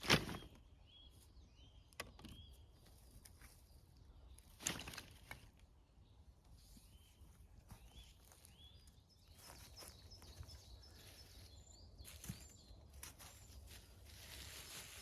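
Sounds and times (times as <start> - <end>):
bird chirping: 0.3 - 13.9.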